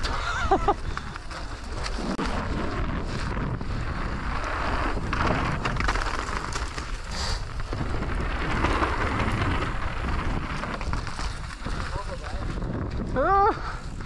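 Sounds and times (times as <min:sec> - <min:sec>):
bike rattling and clicking: 0:00.0 - 0:14.0
wind buffeting microphone: 0:00.0 - 0:14.0.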